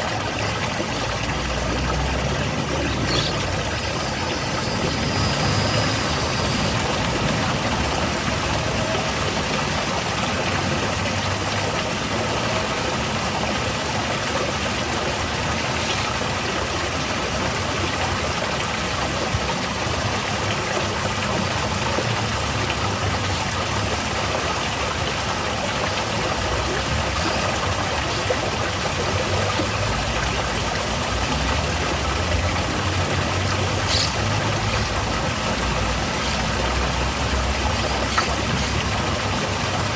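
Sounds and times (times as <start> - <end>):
waterfall splashing into pool: 0.0 - 39.9.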